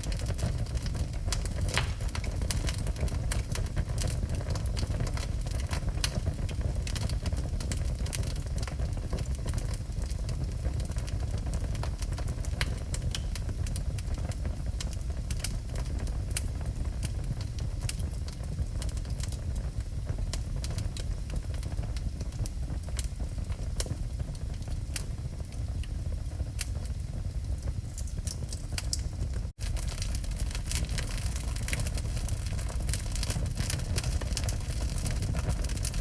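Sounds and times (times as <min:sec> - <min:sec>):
low fire rumble: 0:00.0 - 0:36.0
wood fire crackling and popping: 0:00.0 - 0:36.0.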